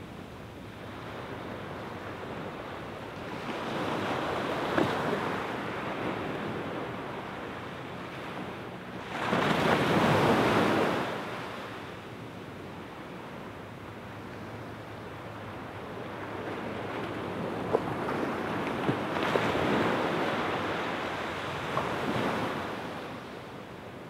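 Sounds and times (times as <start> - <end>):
small waves breaking on beach: 0.8 - 12.0, 12.6 - 24.0.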